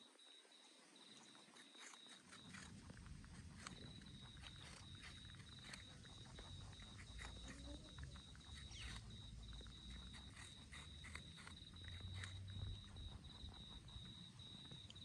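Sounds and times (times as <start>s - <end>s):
rabbits chewing apple: 0.0s - 15.0s.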